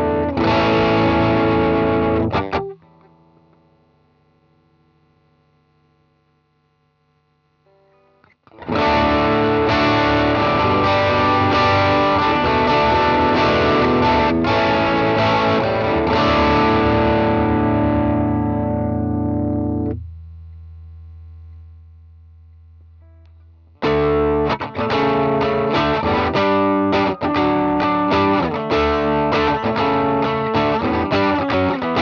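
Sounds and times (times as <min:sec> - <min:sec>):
distorted electric guitar chords: 0:00.0 - 0:05.1, 0:06.8 - 0:32.0.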